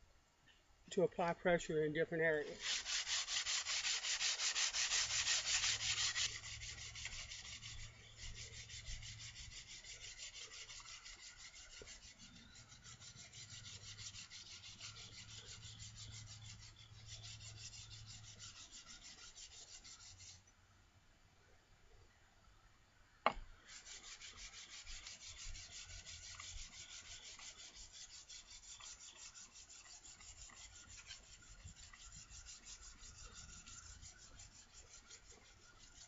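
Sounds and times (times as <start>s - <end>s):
plane scraping on sandpaper: 2.4s - 20.5s, 23.6s - 36.0s.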